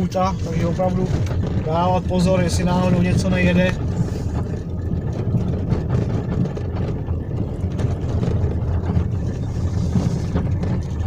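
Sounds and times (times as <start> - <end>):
car engine rumbling: 0.0 - 11.0
road noise inside car: 0.0 - 11.0.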